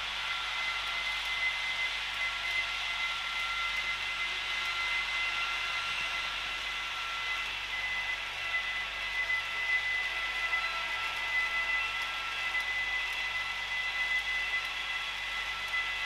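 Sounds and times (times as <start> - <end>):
model train motors whirring: 0.0 - 16.0
whining tones: 0.0 - 16.0.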